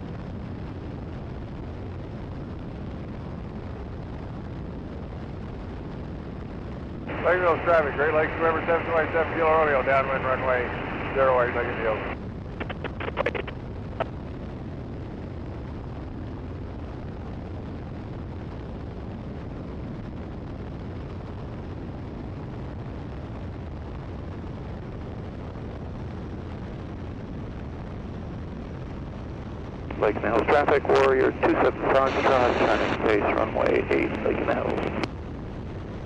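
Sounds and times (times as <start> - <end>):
biplane engine and wind noise: 0.0 - 36.0.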